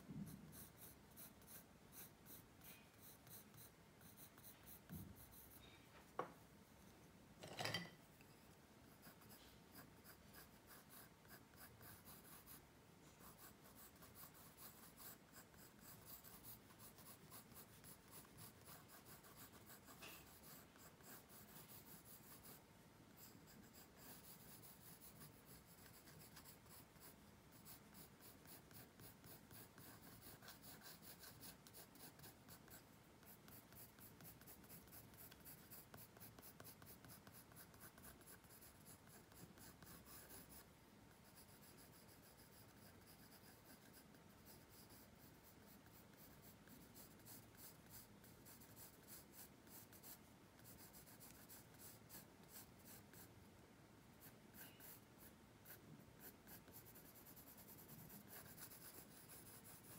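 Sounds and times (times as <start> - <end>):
pencil scratching on paper: 0.1 - 6.2, 8.8 - 53.3, 54.2 - 59.9.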